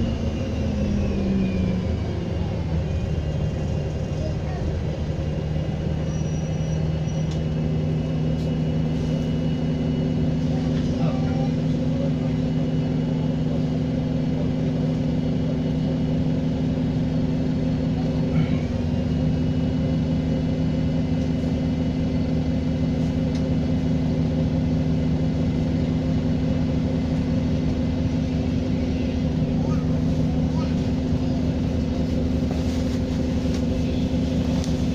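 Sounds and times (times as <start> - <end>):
diesel bus engine running: 0.0 - 34.9.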